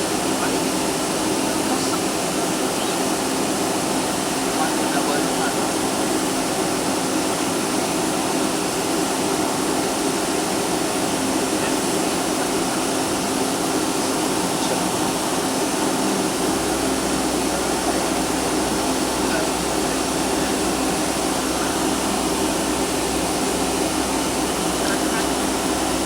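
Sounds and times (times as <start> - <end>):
airliner cabin engine hum: 0.0 - 26.0.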